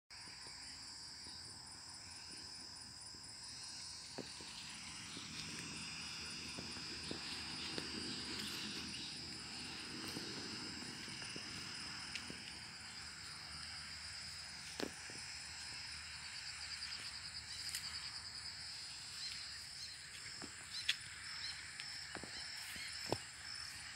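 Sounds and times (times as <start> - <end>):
insects trilling: 0.2 - 23.9.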